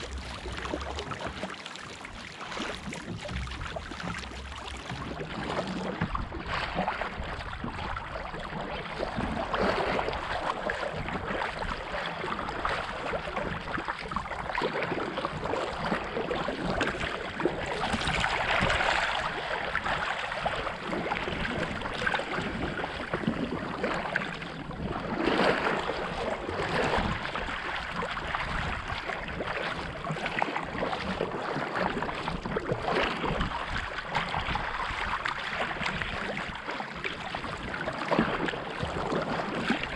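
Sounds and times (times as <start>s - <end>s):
paddle blades splashing: 0.0s - 39.9s
waves slapping hull: 0.0s - 39.9s.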